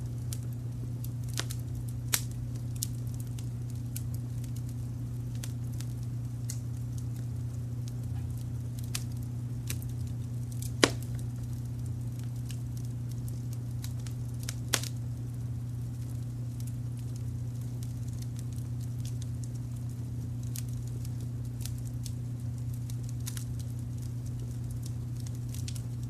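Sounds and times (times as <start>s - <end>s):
low rumble of brown noise: 0.0s - 26.0s
wood fire crackling and popping: 0.0s - 26.0s.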